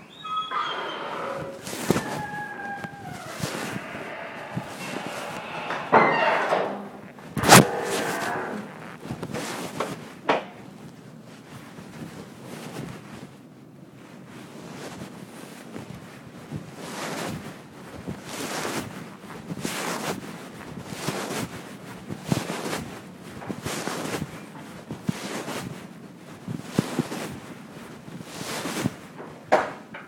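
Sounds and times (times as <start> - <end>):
fabric rubbing on microphone: 0.0 - 29.5.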